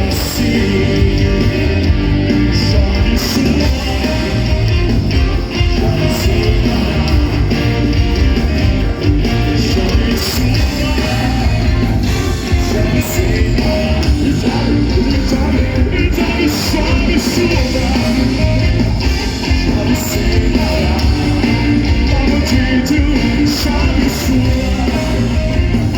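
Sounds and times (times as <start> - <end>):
person singing: 0.0 - 25.9
rock band playing: 0.0 - 25.9.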